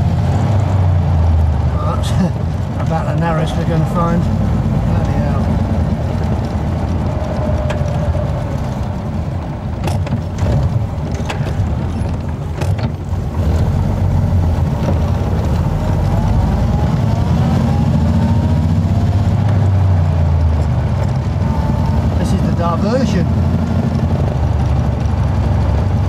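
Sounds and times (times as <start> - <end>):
car engine drone: 0.0 - 26.0
road noise: 0.0 - 26.0.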